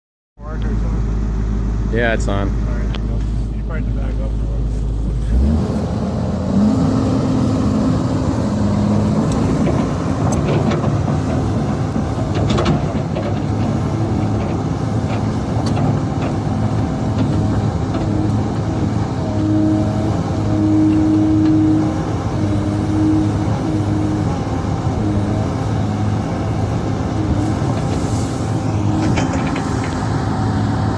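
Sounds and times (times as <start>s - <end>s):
excavator diesel engine running: 0.4s - 30.9s
hydraulic whine: 5.0s - 30.9s.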